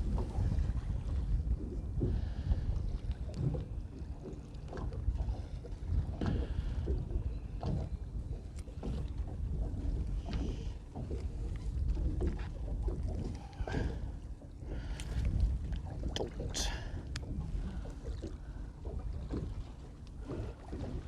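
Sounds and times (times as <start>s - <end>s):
water sloshing: 0.0s - 21.0s
wind rumbling on microphone: 0.0s - 21.0s.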